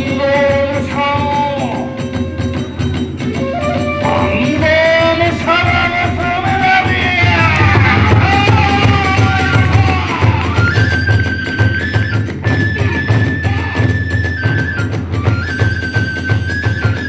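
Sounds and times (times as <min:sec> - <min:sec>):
bamboo flute melody: 0:00.0 - 0:17.0
big drum beating: 0:00.0 - 0:17.0
small drum: 0:00.0 - 0:17.0.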